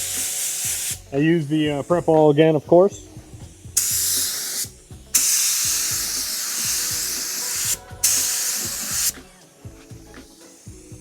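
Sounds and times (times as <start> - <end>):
spray gun hissing: 0.0 - 2.4, 3.5 - 9.3, 10.2 - 11.0
faint background music: 0.0 - 11.0.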